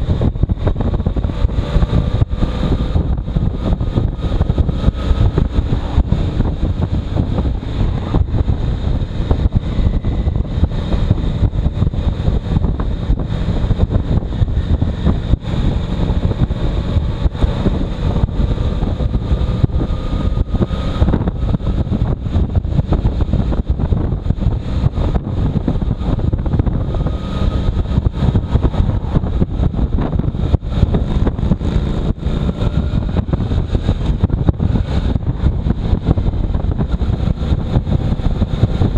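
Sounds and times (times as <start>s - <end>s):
motorcycle engine: 0.0s - 38.9s
wind noise on microphone: 0.0s - 38.9s.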